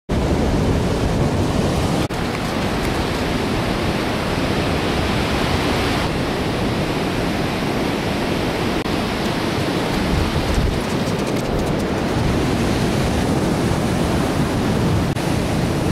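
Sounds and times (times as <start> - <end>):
ocean surf breaking: 0.1 - 15.9
wind on microphone: 0.1 - 15.9.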